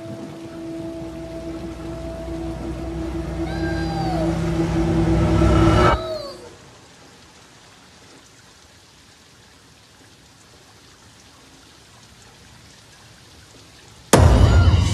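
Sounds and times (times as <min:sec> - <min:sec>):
rain on wet street: 0:00.0 - 0:14.9.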